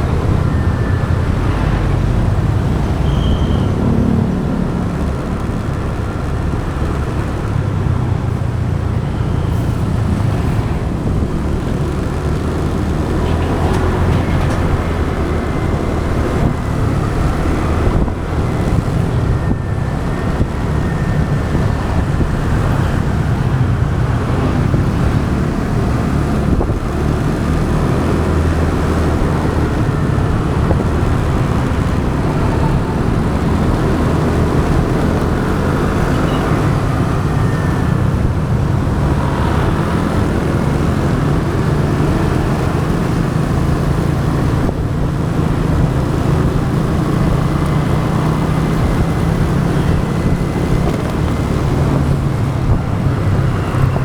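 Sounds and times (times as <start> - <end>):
motorbike engine: 0.0 - 54.0
passing vehicles: 0.0 - 54.0
road noise: 0.0 - 54.0
wind rumbling on microphone: 0.0 - 54.0.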